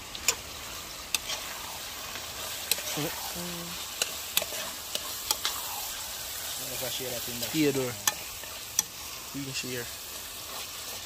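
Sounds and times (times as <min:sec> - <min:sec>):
food frying and sizzling in pot: 0:00.0 - 0:11.0.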